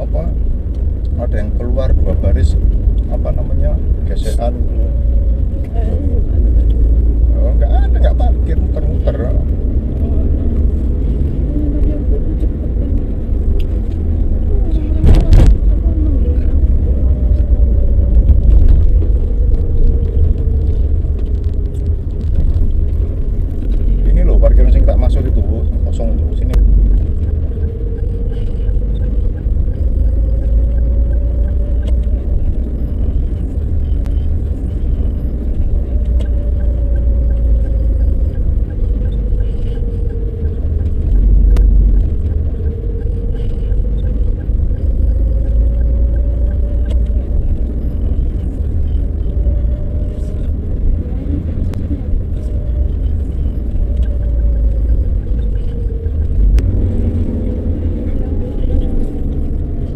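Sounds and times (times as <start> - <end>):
car driving slowly: 0.0 - 59.9
drivetrain whine: 0.0 - 59.9.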